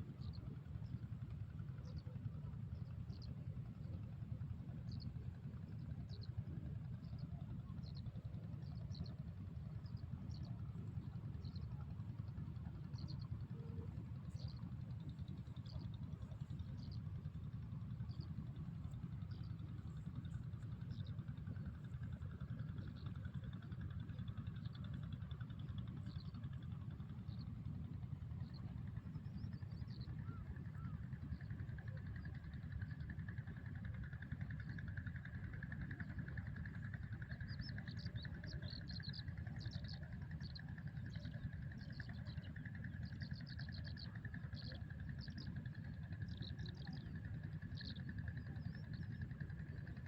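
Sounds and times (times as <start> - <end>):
steady low rumble: 3.6 - 50.0.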